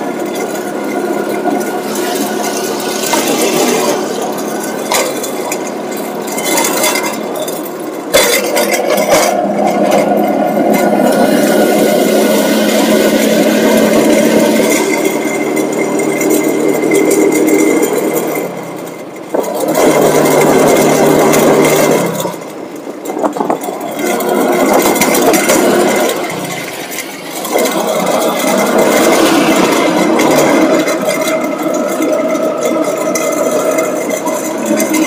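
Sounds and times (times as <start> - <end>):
small engine rattly drone: 0.0 - 35.0.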